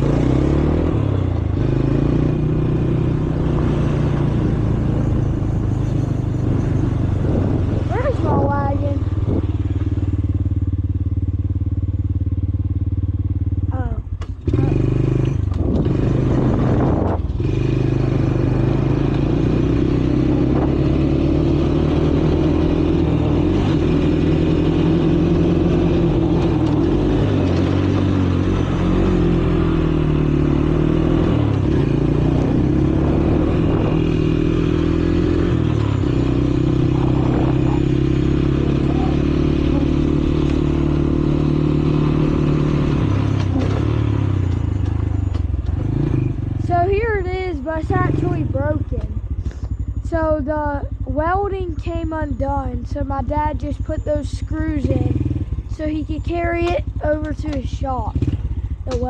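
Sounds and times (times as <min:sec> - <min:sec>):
small vehicle engine running: 0:00.0 - 0:59.0.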